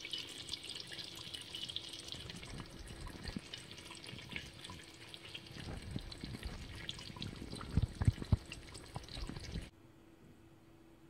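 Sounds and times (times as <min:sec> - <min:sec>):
bubbles plopping in thick gravy: 0:00.0 - 0:09.7
gravy simmering with pops: 0:00.0 - 0:09.7.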